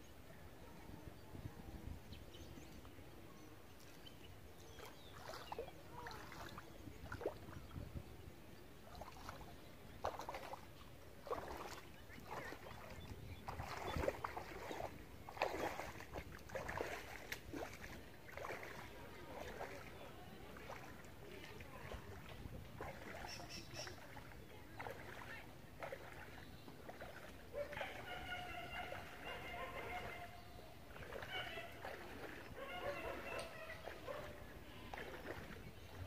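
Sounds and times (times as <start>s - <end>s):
feet splashing in muddy water: 3.6s - 36.0s.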